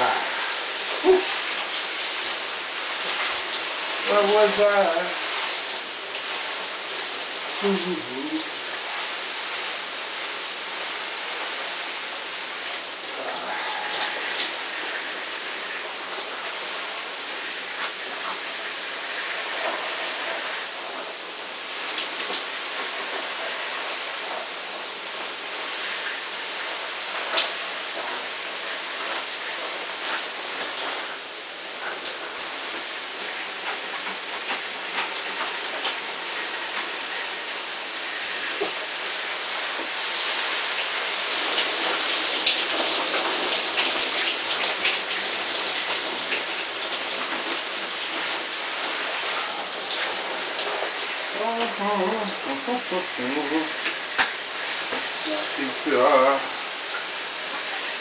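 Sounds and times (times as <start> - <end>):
shower water spraying: 0.0 - 58.0.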